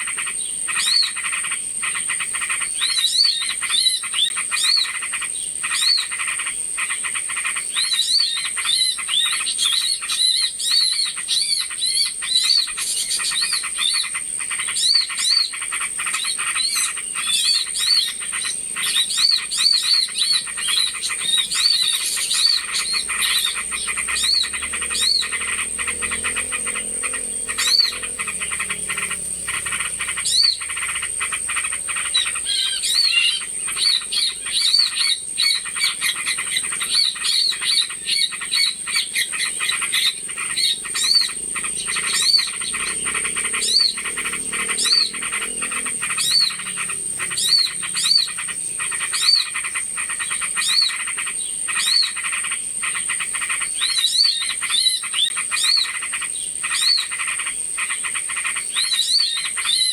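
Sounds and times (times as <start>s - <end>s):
rapid clicking bird chatter: 0.0s - 59.9s
small birds chirping: 0.0s - 59.9s.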